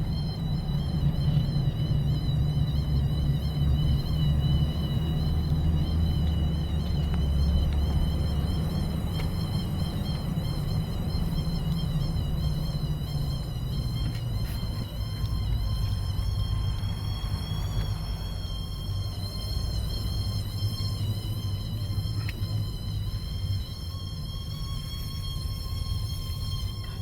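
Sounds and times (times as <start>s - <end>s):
low road rumble: 0.0s - 27.0s
wheel whine: 0.0s - 27.0s.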